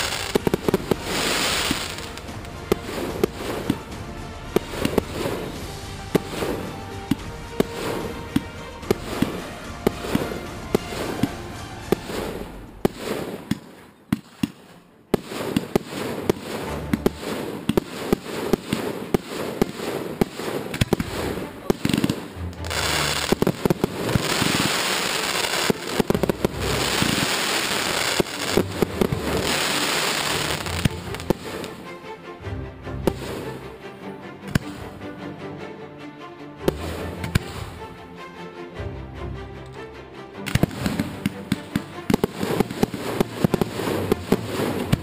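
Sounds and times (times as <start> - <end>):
fireworks bangs: 0.0 - 31.9, 34.5 - 35.0, 36.7 - 37.8, 40.5 - 45.0
fireworks crackling hiss: 0.0 - 31.9, 36.7 - 37.8, 40.5 - 45.0.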